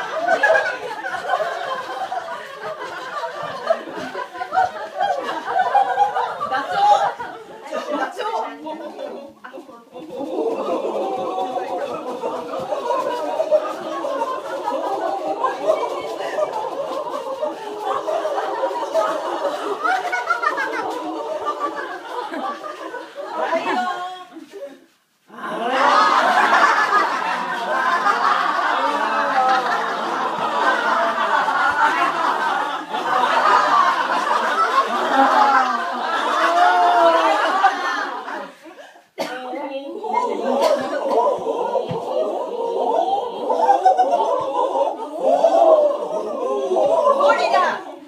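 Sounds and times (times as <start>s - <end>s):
group of people laughing: 0.0s - 48.0s.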